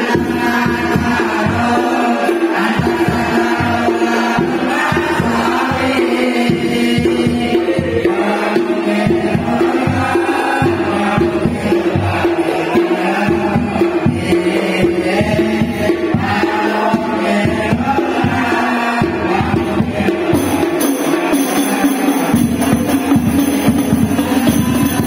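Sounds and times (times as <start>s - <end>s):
frame drum rhythm: 0.0s - 25.0s
young men chanting in unison: 0.0s - 25.0s.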